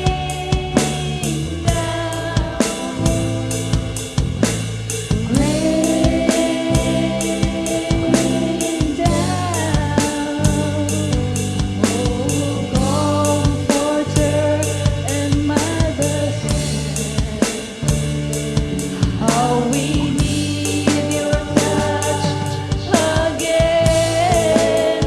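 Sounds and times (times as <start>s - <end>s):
person singing: 0.0s - 4.4s, 5.0s - 18.1s, 18.8s - 25.0s
drum kit beat: 0.0s - 25.0s
live band playing slow song: 0.0s - 25.0s.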